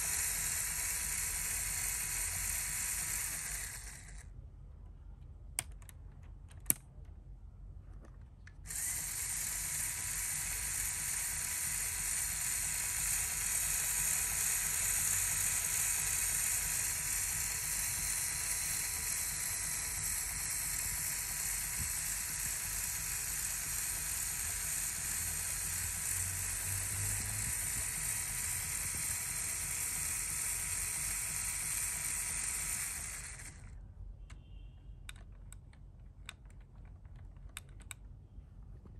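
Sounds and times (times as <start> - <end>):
electric motor and gears whirring: 0.0 - 4.4, 8.0 - 38.0.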